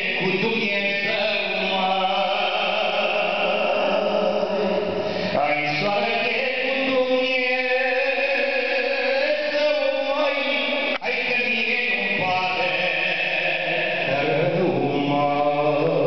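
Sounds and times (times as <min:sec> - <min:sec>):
man singing over a pa: 0:00.0 - 0:16.0.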